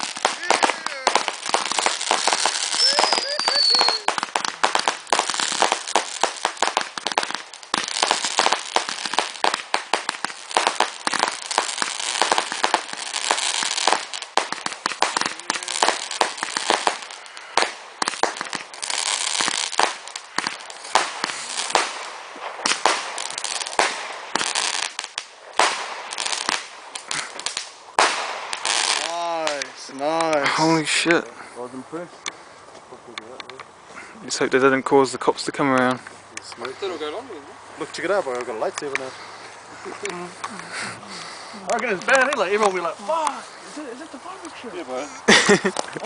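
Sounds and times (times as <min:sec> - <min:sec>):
firework bangs and pops: 0:00.0 - 0:31.3, 0:35.6 - 0:46.0
firework crackling: 0:00.0 - 0:46.0.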